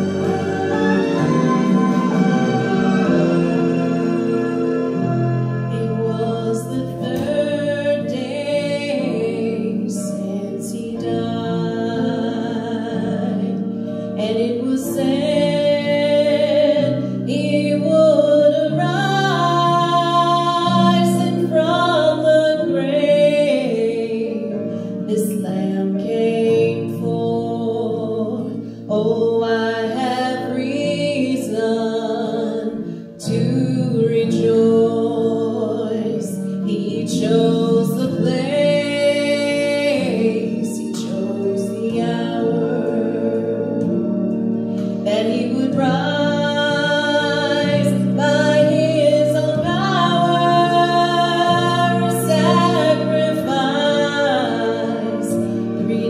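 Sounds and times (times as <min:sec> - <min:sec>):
instrumental accompaniment with bass: 0:00.0 - 0:56.0
person singing gospel song: 0:05.7 - 0:43.9, 0:45.0 - 0:56.0.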